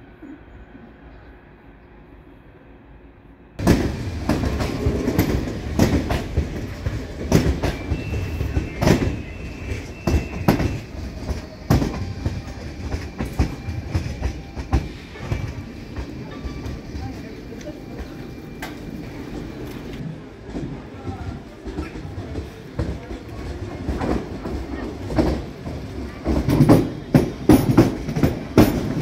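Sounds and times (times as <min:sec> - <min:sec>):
train rumble: 0:00.0 - 0:29.0
train wheels clattering over rails: 0:03.6 - 0:29.0.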